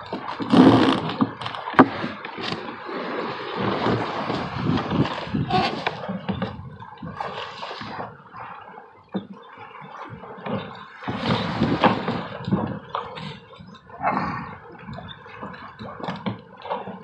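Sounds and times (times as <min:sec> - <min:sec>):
water splashing along boat hull: 0:00.0 - 0:17.0.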